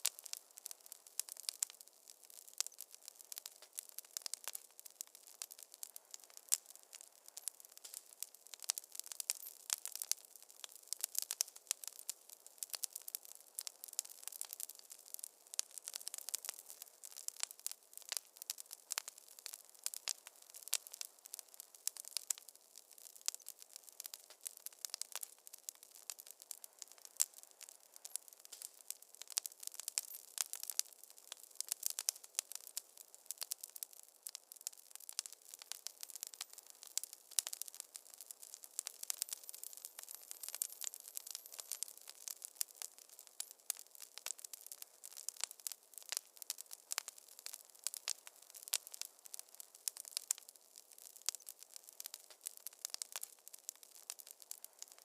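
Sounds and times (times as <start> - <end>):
fireplace fire crackling: 0.0 - 55.0.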